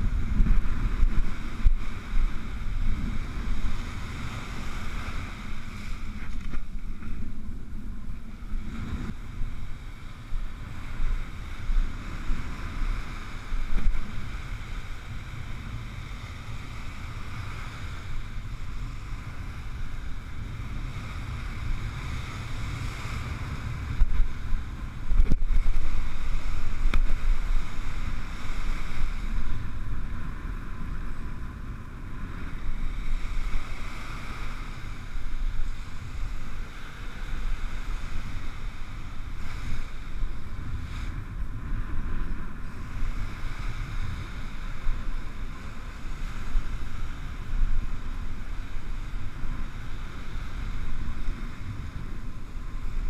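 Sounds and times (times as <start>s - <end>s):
breaking surf: 0.0s - 53.0s
wind buffeting microphone: 0.0s - 53.0s.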